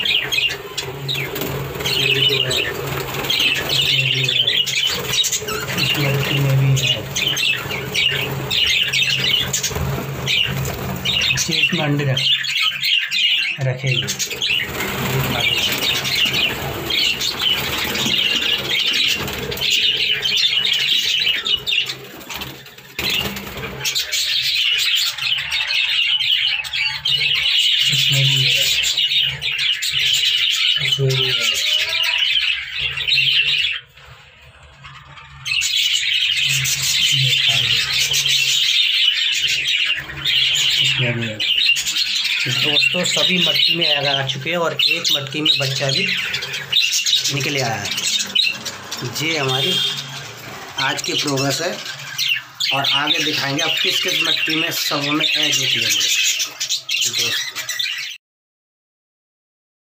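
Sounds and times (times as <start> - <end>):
wings fluttering: 0.0 - 58.1
budgerigars chirping and warbling: 0.0 - 58.2.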